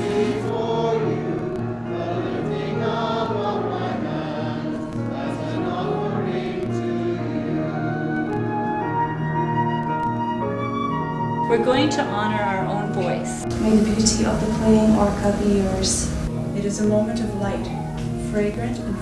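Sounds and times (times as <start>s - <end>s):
choir singing: 0.0s - 9.8s, 13.1s - 19.0s
low held accompaniment: 0.0s - 19.0s.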